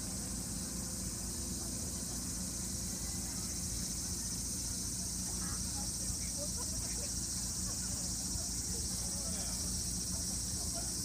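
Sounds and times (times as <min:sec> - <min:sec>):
low background rumble: 0:00.0 - 0:11.0
night insects chorus: 0:00.0 - 0:11.0.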